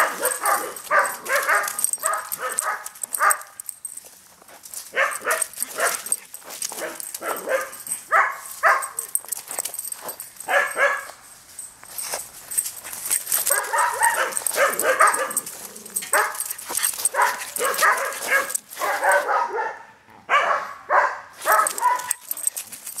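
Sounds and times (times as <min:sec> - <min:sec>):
dog barking and yipping: 0:00.0 - 0:04.0, 0:04.7 - 0:11.2, 0:12.5 - 0:23.0
footsteps in dry leaves: 0:00.0 - 0:19.5, 0:21.3 - 0:23.0.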